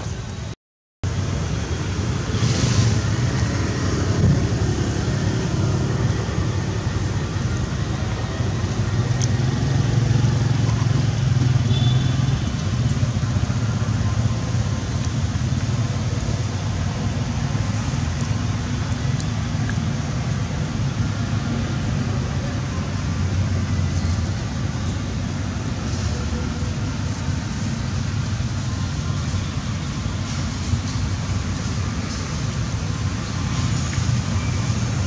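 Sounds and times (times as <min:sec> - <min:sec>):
engine running low rumble: 0:00.0 - 0:35.0.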